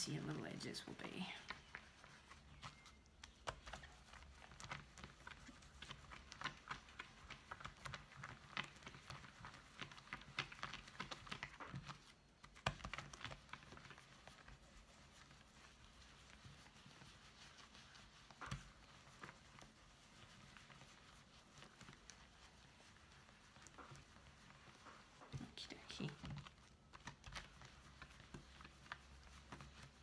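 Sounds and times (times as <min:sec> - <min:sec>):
wet squishing of rubbed felt: 0:00.0 - 0:30.0.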